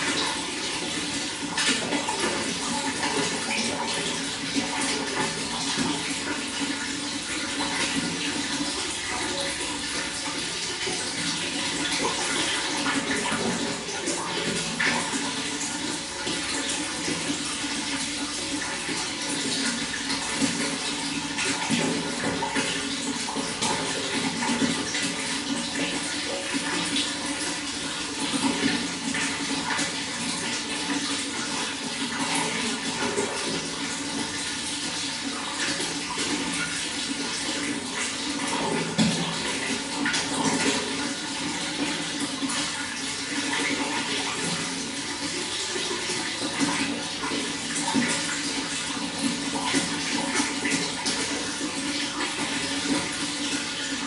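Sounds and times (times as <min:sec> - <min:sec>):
running water splashing: 0:00.0 - 0:54.0.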